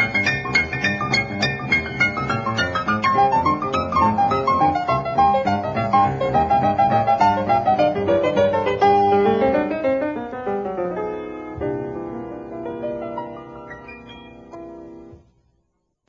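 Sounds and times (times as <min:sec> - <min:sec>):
instrumental piano music: 0:00.0 - 0:15.7.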